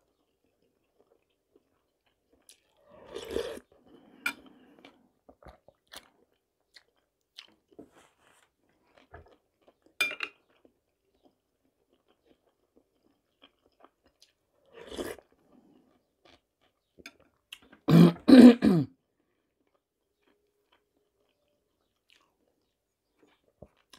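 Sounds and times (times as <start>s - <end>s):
chewing and crunching food: 0.0s - 17.9s, 19.0s - 23.9s.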